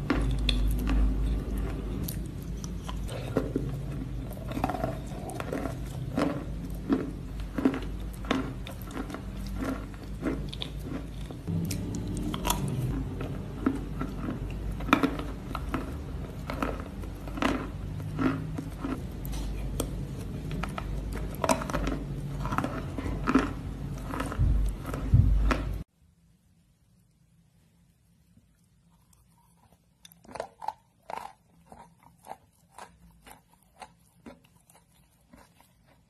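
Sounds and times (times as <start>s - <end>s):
chewing mouth sounds: 0.0s - 25.8s, 28.8s - 36.0s
low steady hum: 0.0s - 36.0s.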